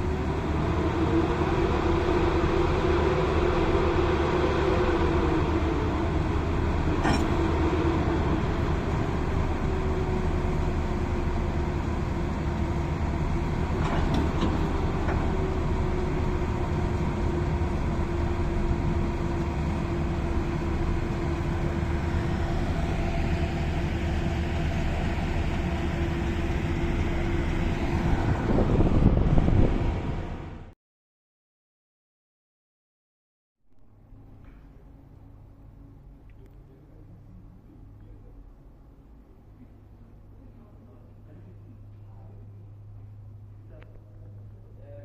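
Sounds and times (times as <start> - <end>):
locomotive engine rumbling: 0.0 - 30.7, 33.8 - 45.0.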